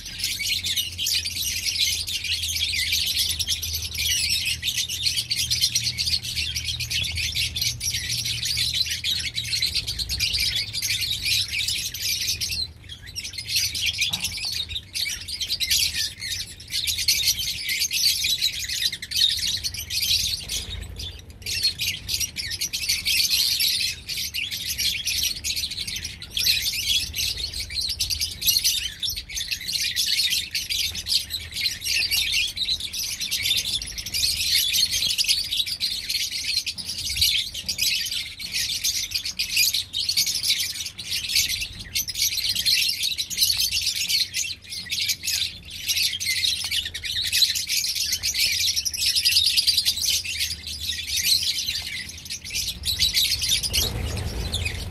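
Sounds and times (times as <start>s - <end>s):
birds chirping and twittering: 0.0s - 54.9s.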